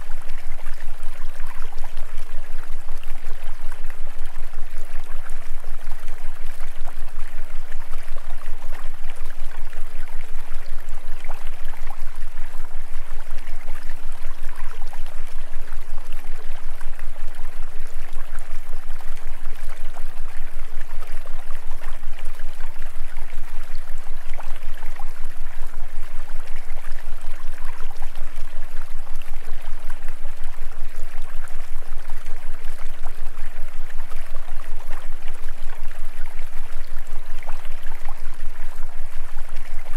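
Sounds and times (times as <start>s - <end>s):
constant deep hum: 0.0s - 39.9s.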